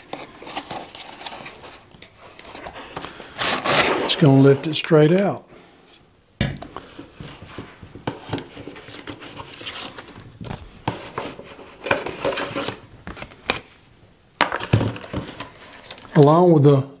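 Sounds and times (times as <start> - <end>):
cardboard rustling and scraping: 0.0 - 5.1, 6.7 - 13.8, 14.4 - 15.9.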